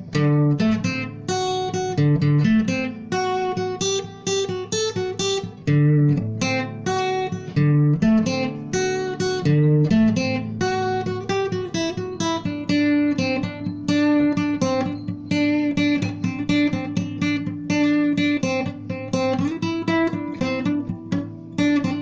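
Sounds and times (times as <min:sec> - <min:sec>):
acoustic guitar melody: 0:00.0 - 0:22.0.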